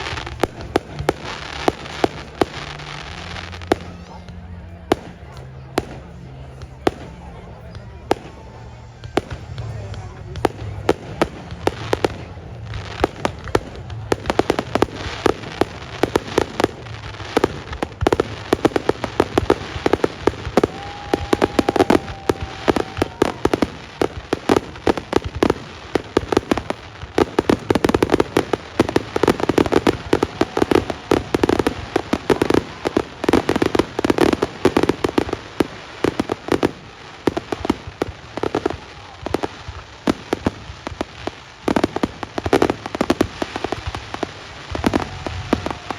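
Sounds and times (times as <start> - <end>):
fireworks crackling and banging: 0.0 - 45.9.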